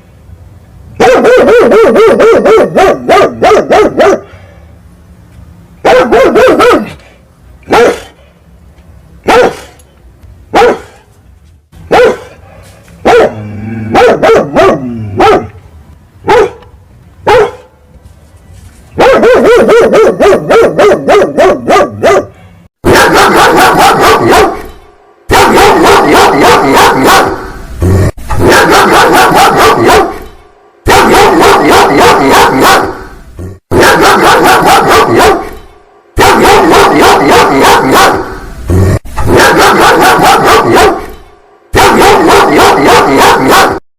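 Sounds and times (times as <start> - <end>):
big dog barking angrily: 1.0 - 4.3, 5.8 - 8.3, 9.2 - 9.8, 10.5 - 11.1, 11.8 - 15.6, 16.2 - 17.8, 19.0 - 27.6, 28.3 - 33.1, 33.7 - 43.8.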